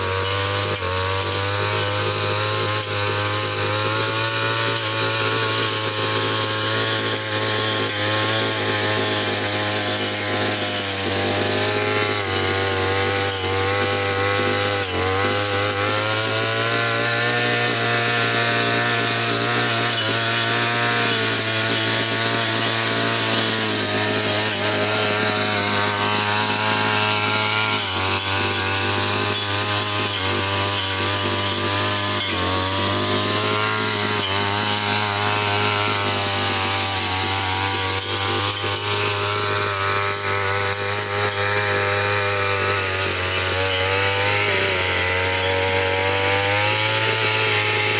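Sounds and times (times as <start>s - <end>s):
brush cutter buzzing: 0.0s - 47.9s.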